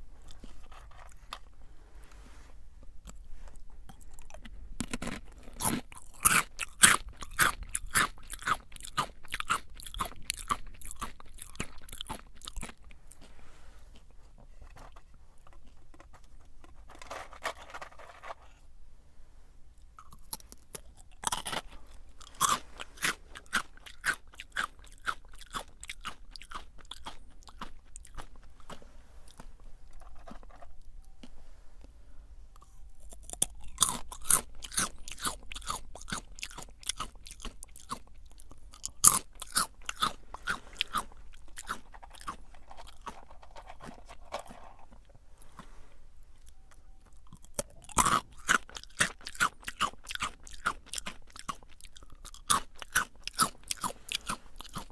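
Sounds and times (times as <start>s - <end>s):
crunching and chewing snacks: 0.0s - 2.1s, 2.8s - 18.7s, 19.8s - 54.9s.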